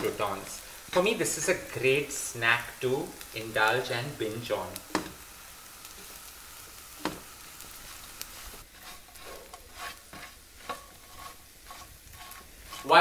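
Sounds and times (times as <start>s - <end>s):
bread frying in a pan: 0.0s - 13.0s.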